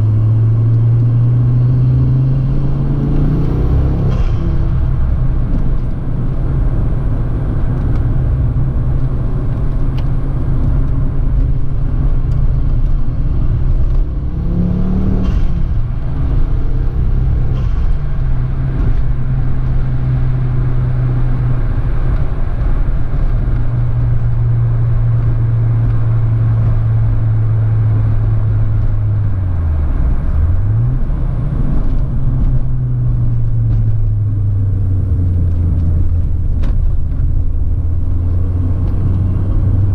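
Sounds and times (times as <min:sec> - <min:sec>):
car engine running while driving: 0:00.0 - 0:39.9
road noise: 0:00.0 - 0:39.9.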